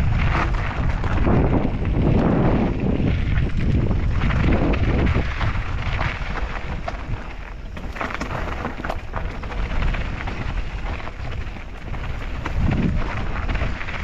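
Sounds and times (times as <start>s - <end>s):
bike clicks and rattles: 0.0s - 14.0s
tyres crunching over gravel: 0.0s - 14.0s
wind rumble on microphone: 0.0s - 14.0s.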